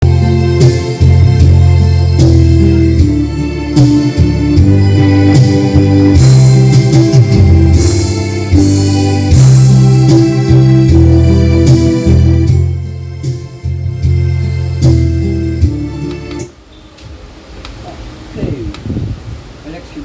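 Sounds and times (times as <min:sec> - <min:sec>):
music with heavy bass line: 0:00.0 - 0:16.5
sustained keyboard notes: 0:00.0 - 0:16.6.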